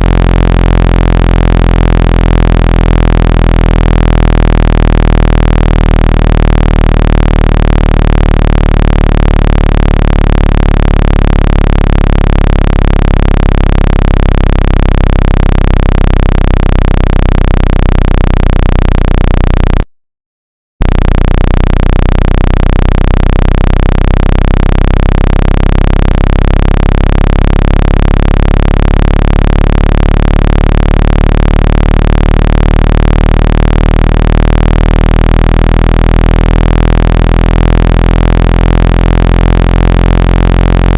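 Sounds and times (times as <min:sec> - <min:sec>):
loud low electronic tones: 0:00.0 - 0:19.9, 0:20.8 - 0:40.9.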